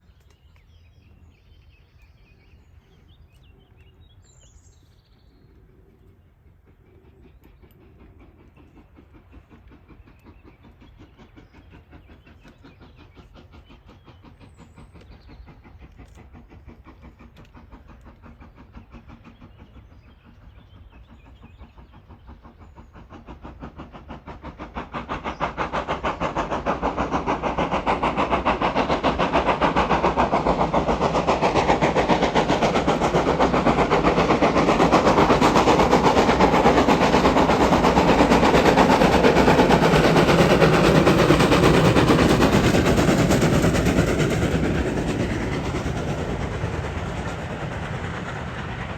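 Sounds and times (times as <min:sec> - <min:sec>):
steam locomotive exhaust beats: 0:00.0 - 0:48.9.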